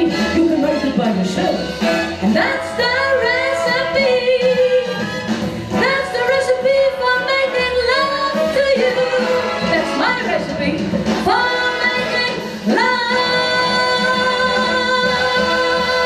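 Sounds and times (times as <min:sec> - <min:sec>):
band playing: 0:00.0 - 0:16.0
woman singing: 0:02.2 - 0:16.0.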